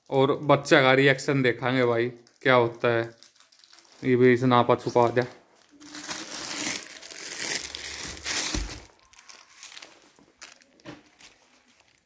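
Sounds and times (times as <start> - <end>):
plastic sleeve crinkling: 1.6 - 12.0.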